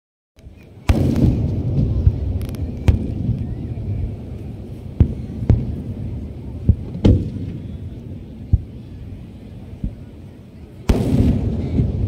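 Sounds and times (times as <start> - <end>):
fireworks crackle: 0.4 - 10.0, 10.8 - 12.0
fireworks exploding: 0.4 - 12.0.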